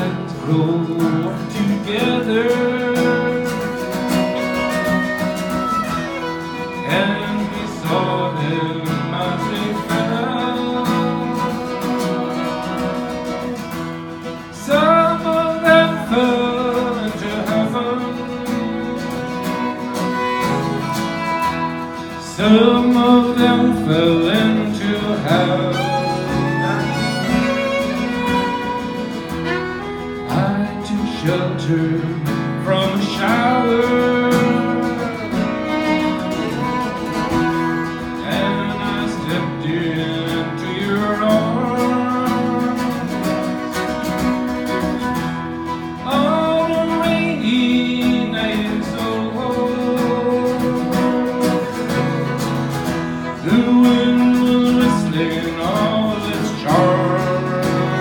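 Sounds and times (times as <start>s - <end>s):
acoustic guitar strumming: 0.0s - 58.0s
fiddle melody: 0.0s - 58.0s
man singing: 0.0s - 58.0s.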